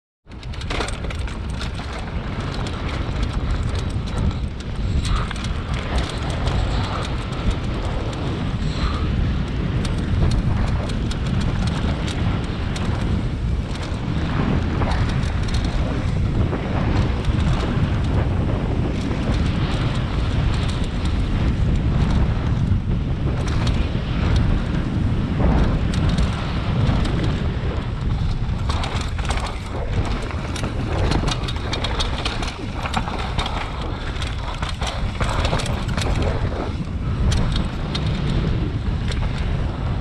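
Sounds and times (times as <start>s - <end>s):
wind buffeting microphone: 0.2s - 40.0s
clicks and knocks from bike: 0.3s - 40.0s
motorcycle engine: 0.3s - 40.0s.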